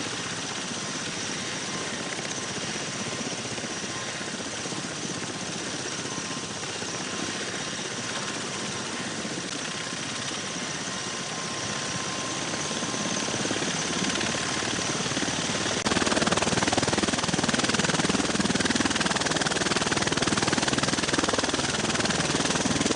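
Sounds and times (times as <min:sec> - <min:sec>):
thin steady whine: 0:00.0 - 0:22.9.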